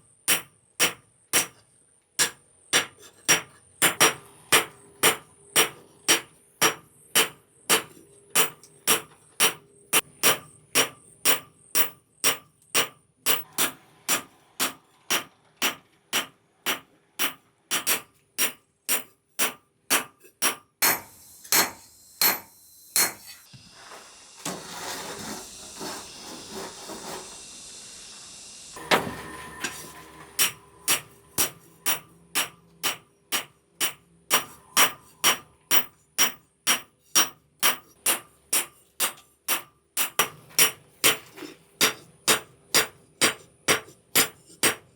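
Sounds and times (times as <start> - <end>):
hammer striking steel on anvil: 0.3 - 1.6, 2.2 - 23.5, 28.8 - 41.2, 41.8 - 44.9.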